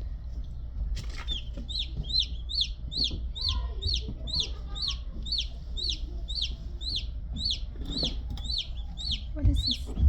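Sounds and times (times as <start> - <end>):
chick peeping: 0.5 - 10.0.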